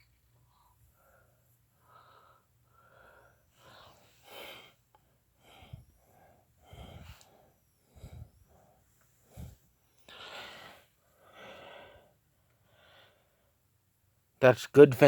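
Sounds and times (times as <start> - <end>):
person breathing faintly: 0.4 - 13.6.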